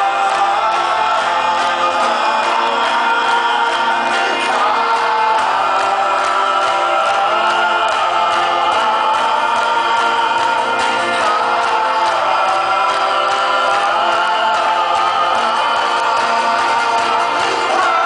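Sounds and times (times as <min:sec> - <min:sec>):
voices singing together: 0:00.0 - 0:18.0.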